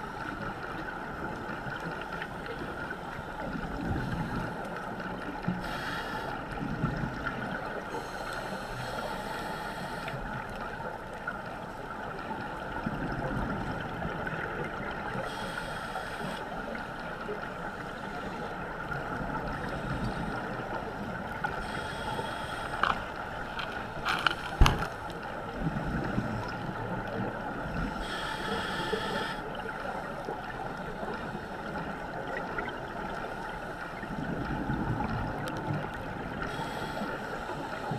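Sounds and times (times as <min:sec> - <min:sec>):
steady underwater hiss: 0:00.0 - 0:37.9.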